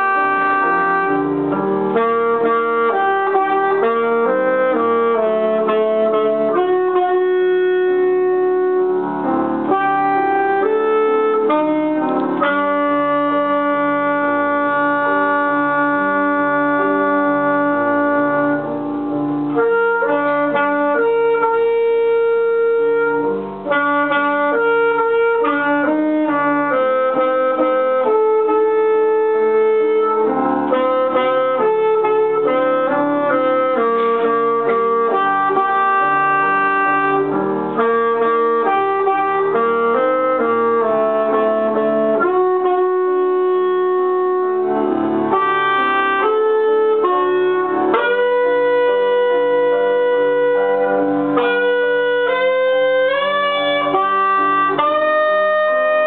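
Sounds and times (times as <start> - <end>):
alto saxophone melody: 0.0 - 56.0
piano accompaniment: 0.0 - 56.0.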